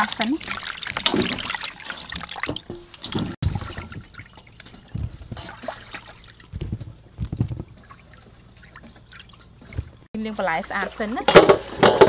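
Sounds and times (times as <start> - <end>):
water trickling into steel basin: 0.0 - 12.0.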